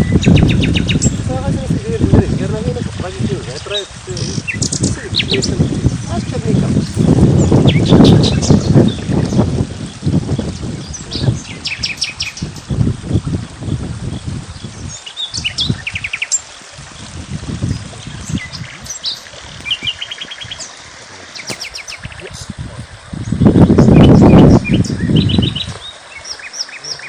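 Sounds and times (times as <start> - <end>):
small birds chirping: 0.0 - 1.4, 3.0 - 27.0.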